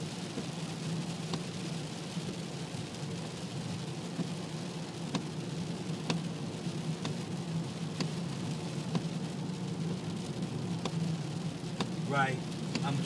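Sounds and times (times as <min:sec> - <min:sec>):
car engine hum: 0:00.0 - 0:13.0
rain on windscreen: 0:00.0 - 0:13.0
tyres on wet road: 0:00.0 - 0:13.0
windscreen wipers sweeping: 0:00.0 - 0:13.0.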